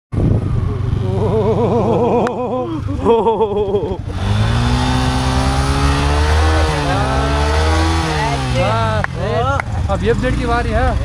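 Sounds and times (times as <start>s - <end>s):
motorcycle engine revving: 0.2s - 11.0s.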